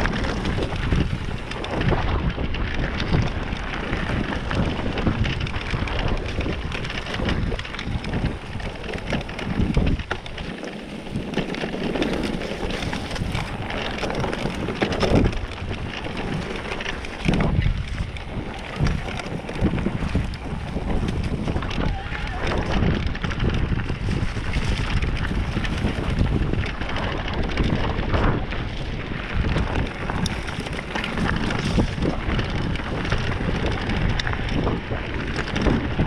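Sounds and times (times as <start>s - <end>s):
bike rattling over bumps: 0.0s - 36.0s
tyres crunching over dirt: 0.0s - 36.0s
wind buffeting microphone: 0.0s - 36.0s.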